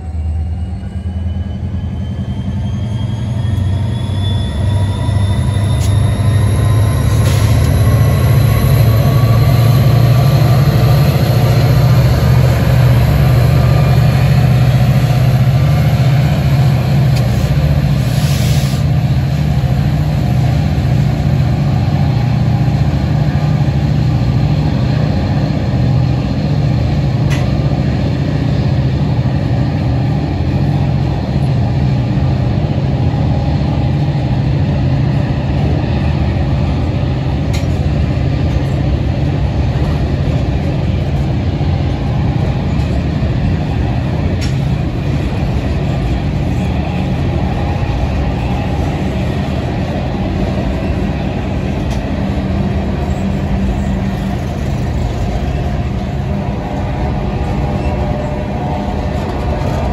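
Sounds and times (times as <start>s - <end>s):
freight cars rumbling on rails: 0.0s - 59.9s
freight locomotives running: 0.0s - 59.9s.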